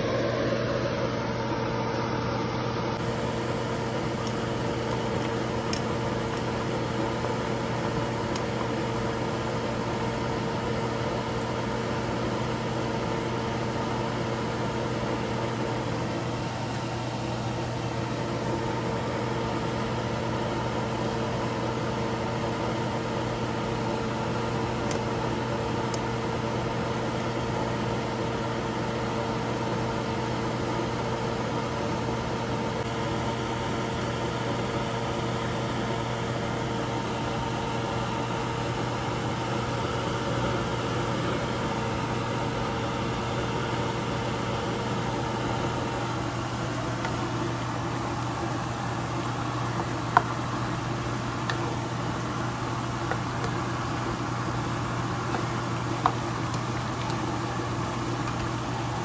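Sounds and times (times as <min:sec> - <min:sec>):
kitchen appliance humming: 0:00.0 - 0:59.0.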